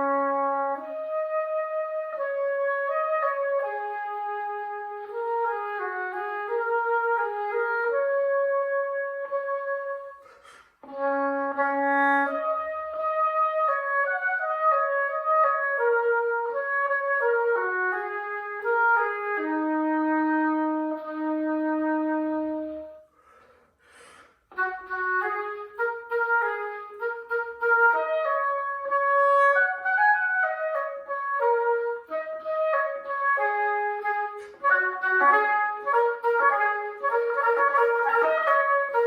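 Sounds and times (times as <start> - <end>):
solo oboe melody: 0.0 - 23.1, 24.5 - 39.0.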